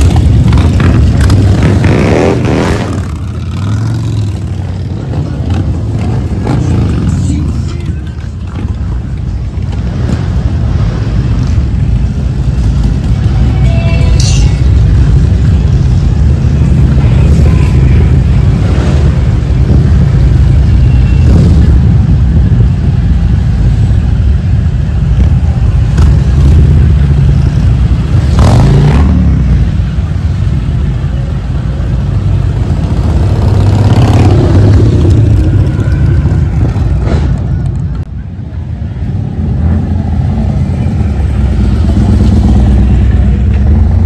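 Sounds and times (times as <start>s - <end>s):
motorcycle engines rumbling: 0.0s - 44.0s.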